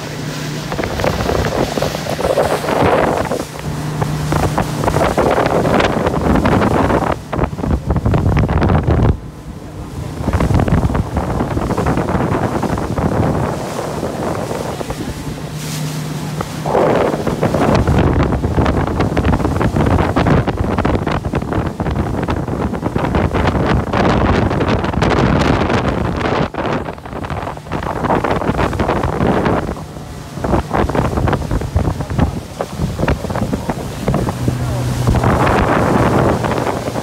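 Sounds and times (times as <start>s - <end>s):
boat motor hum: 0.0s - 37.0s
water rushing along hull: 0.0s - 37.0s
wind buffeting microphone: 0.0s - 37.0s.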